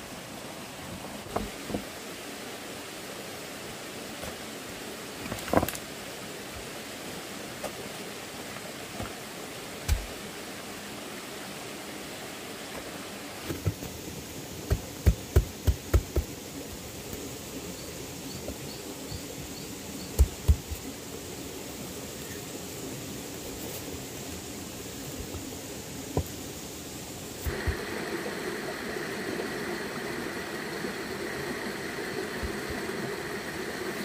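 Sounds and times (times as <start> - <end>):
stream water flowing: 0.0 - 34.0.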